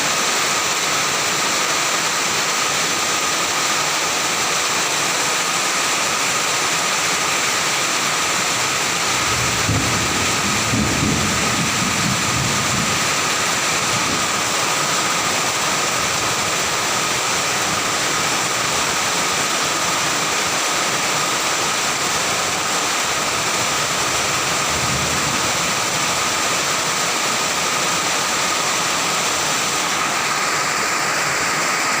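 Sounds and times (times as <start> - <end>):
heavy rain and wind: 0.0 - 32.0.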